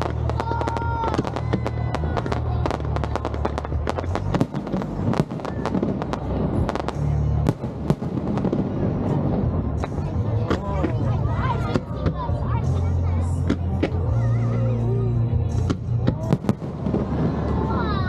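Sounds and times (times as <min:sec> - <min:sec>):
fireworks bangs and crackles: 0:00.0 - 0:14.8, 0:15.4 - 0:18.0
music playing: 0:00.0 - 0:18.0.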